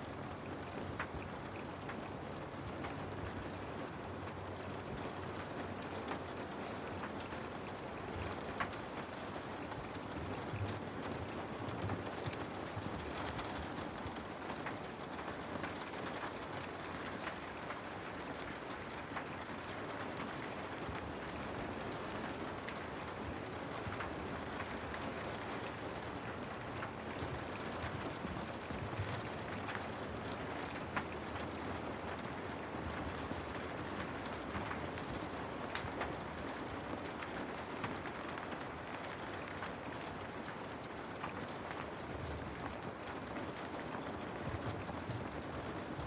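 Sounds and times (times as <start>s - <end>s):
raindrops ticking on window: 0.0s - 46.0s
steady rain hiss: 0.0s - 46.0s.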